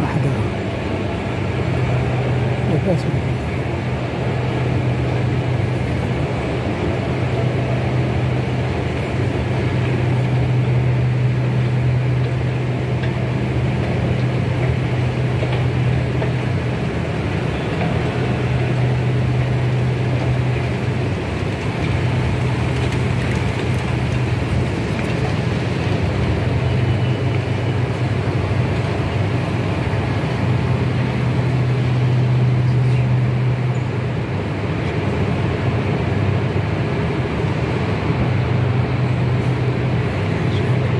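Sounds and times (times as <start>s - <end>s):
escalator machinery hum and rumble: 0.0s - 40.9s.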